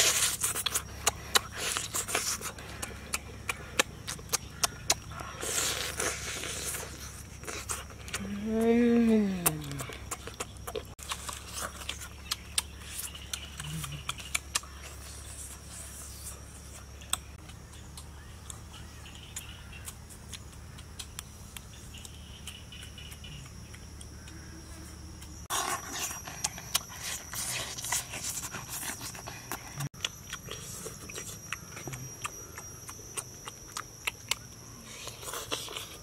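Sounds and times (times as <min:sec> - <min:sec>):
mouth chewing meat: 0:00.0 - 0:36.0.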